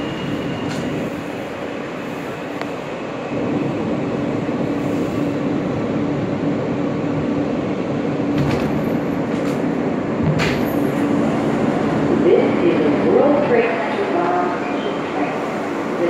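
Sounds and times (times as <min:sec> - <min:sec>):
subway train wheels and motors: 0:00.0 - 0:16.0.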